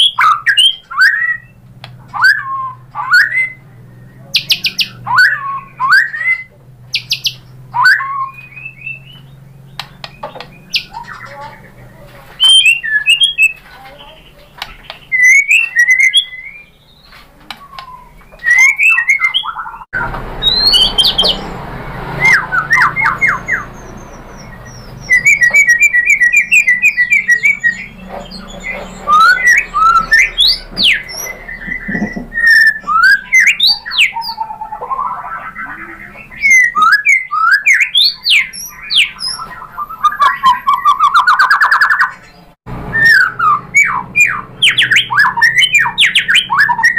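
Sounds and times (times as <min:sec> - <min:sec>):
bird singing whistles and trills: 0:00.0 - 0:11.8, 0:12.4 - 0:46.9.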